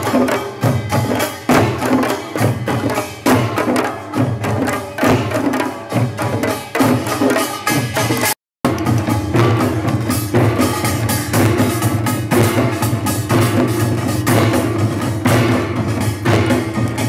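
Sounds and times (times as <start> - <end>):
drums in fast rhythm: 0.0 - 17.0.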